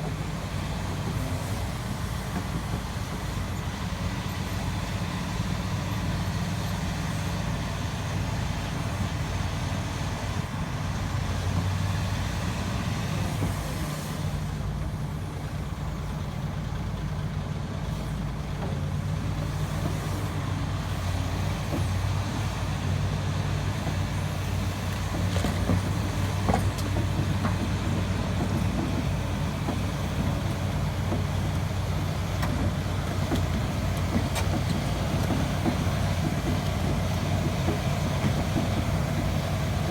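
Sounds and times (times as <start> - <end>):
heavy diesel engines humming: 0.0 - 39.9.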